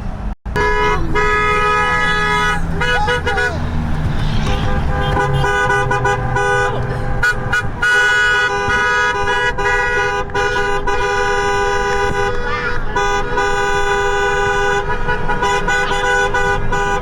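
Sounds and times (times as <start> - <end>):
truck horns honking: 0.0 - 17.0.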